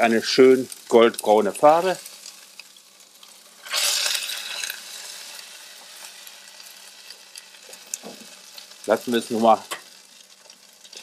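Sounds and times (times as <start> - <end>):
fat sizzling on a grill: 0.0 - 11.0.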